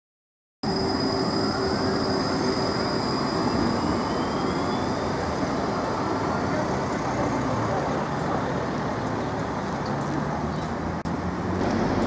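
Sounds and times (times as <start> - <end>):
electric tram rumbling: 0.6 - 12.0.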